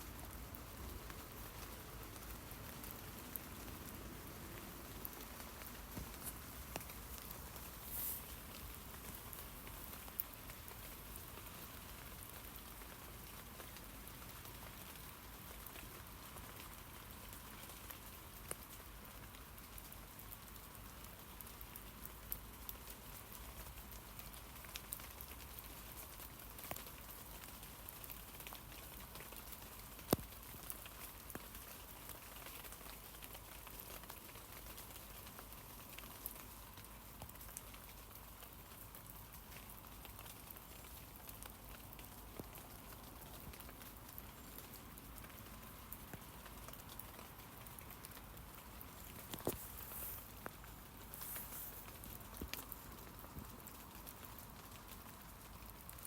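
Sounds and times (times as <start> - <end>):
light rain on leaves: 0.0 - 56.0.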